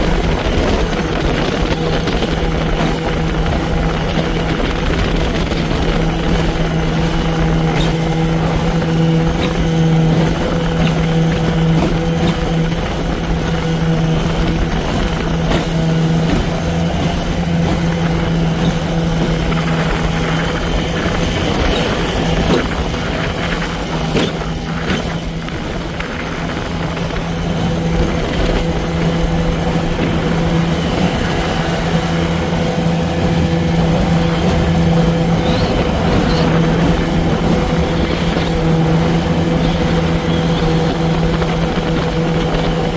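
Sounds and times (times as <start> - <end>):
outboard motor droning: 0.0 - 42.9
water noise: 0.0 - 42.9
wind: 0.0 - 42.9.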